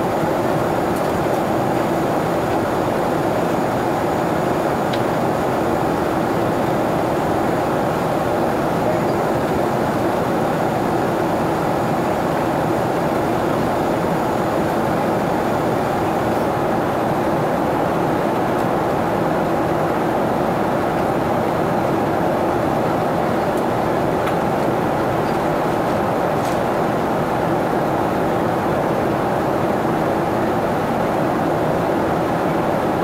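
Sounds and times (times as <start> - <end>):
jet airliner cabin noise: 0.0 - 33.0.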